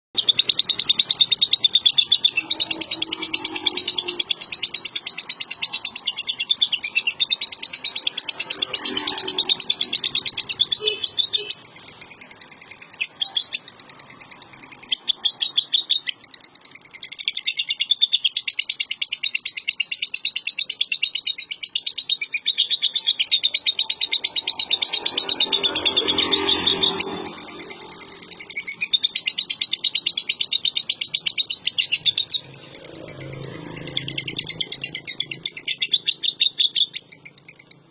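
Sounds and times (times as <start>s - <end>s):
bird chattering high-pitched chirps: 0.2s - 37.9s.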